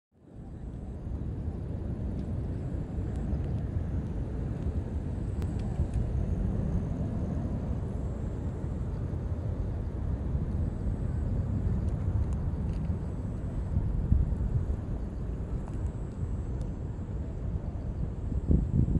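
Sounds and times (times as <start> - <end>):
faint high whine: 0.2 - 18.9
gusty low rumble: 0.3 - 18.9.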